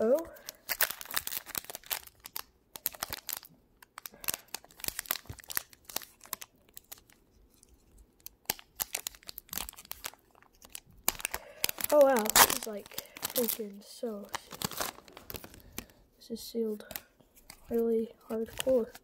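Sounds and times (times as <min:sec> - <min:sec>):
foil wrapper crinkling and tearing: 0:00.0 - 0:16.0, 0:16.9 - 0:19.0.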